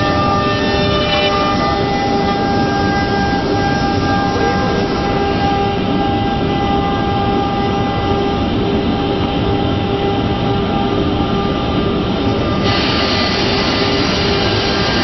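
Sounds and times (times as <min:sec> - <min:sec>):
cnc router running: 0:00.0 - 0:15.0.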